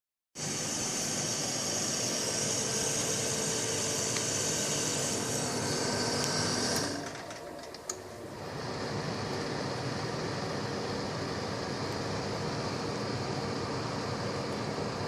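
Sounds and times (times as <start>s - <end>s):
dehumidifier fan hiss: 0.4s - 15.0s.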